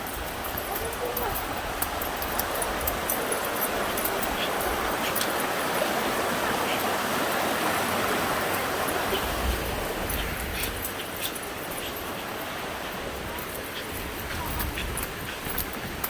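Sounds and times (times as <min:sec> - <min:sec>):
flowing stream water: 0:00.0 - 0:16.0.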